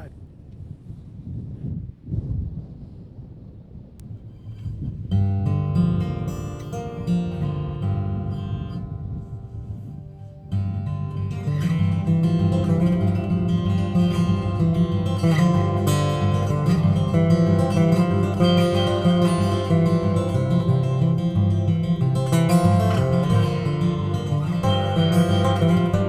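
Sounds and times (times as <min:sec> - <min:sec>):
acoustic guitar: 0:04.4 - 0:26.0.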